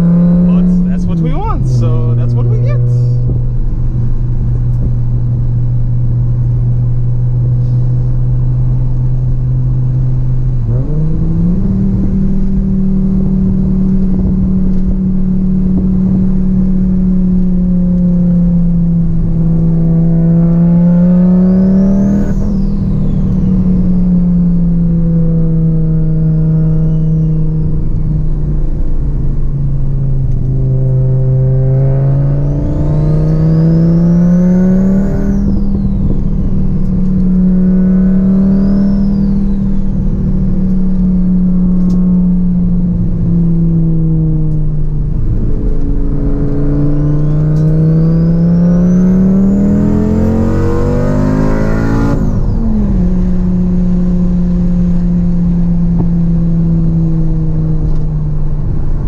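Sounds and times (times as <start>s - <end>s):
car engine drone: 0.0s - 59.0s.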